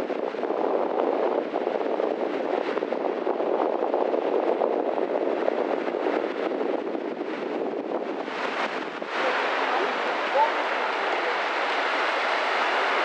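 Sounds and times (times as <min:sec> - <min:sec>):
small waves breaking on beach: 0:00.0 - 0:13.0.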